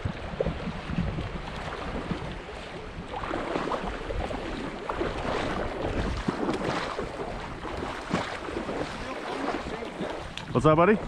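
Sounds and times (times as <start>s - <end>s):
water sloshing around legs: 0.0s - 11.0s
wind on microphone: 0.0s - 11.0s.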